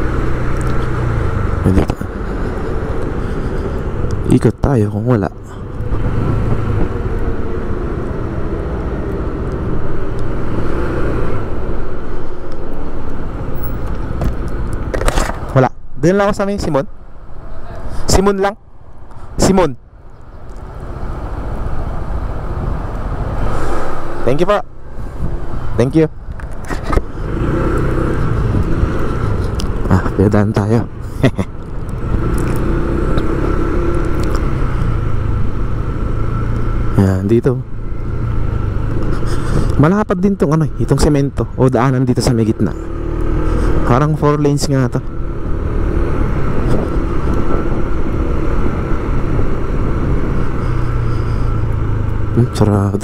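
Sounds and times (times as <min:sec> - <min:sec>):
road and wind noise: 0:00.0 - 0:53.0
vehicle engine hum: 0:00.0 - 0:53.0.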